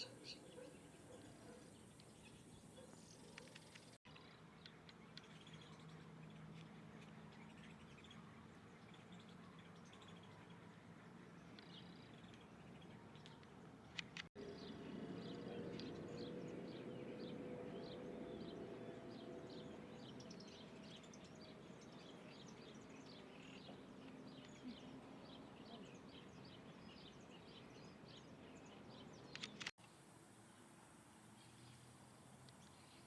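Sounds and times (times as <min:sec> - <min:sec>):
bird chirping: 0:00.0 - 0:29.7.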